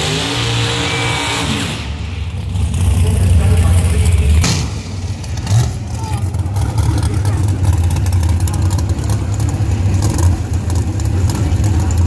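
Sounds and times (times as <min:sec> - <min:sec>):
engine revving: 0:00.0 - 0:12.0
race cars idling: 0:01.7 - 0:12.0.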